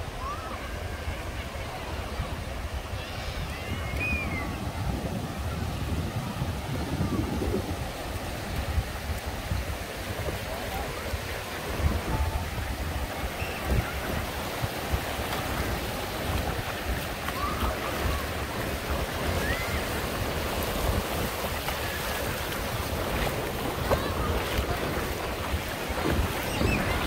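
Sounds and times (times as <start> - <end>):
small waves breaking on sand: 0.0 - 27.0
wind buffeting microphone: 0.0 - 27.0.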